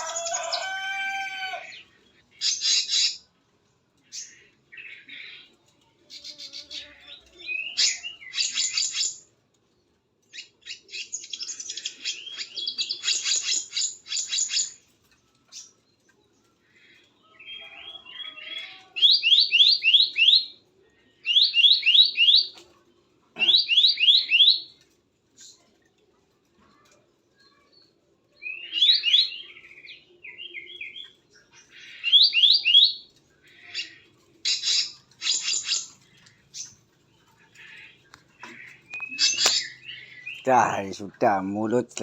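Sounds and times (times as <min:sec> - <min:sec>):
songbirds chattering: 0:00.0 - 0:42.0.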